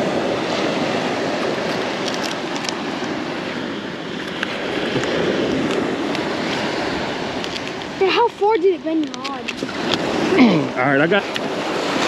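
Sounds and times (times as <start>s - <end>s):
surf washing ashore: 0.0s - 12.0s
wind buffeting microphone: 0.0s - 12.0s.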